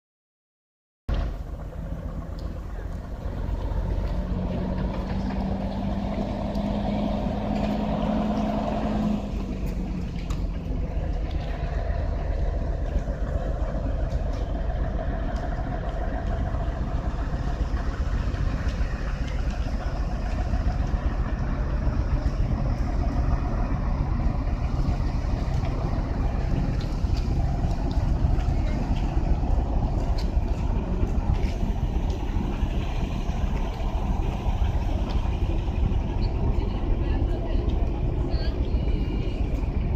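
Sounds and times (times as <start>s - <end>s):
heavy road vehicle rumbling: 1.1s - 39.9s.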